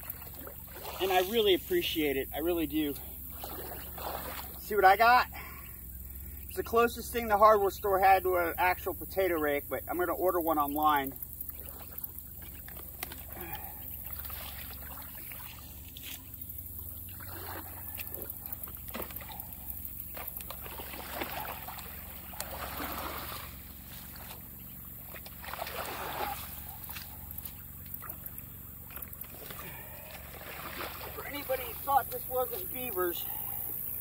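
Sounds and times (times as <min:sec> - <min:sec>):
water sloshing and splashing: 0:00.0 - 0:34.0.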